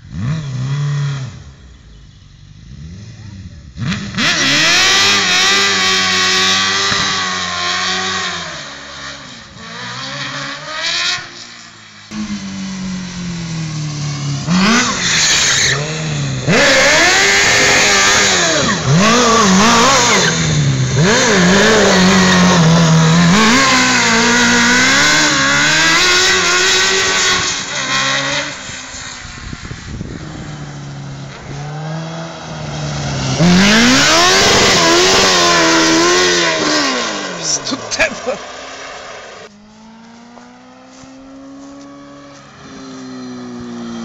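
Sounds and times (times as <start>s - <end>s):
motorcycle engine revving hard: 0.0s - 44.0s.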